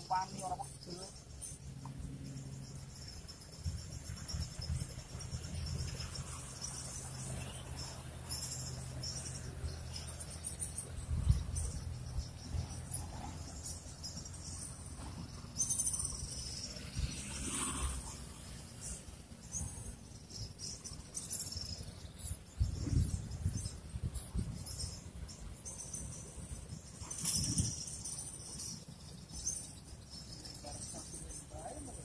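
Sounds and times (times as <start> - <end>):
insects chirping and trilling: 0.0 - 32.0.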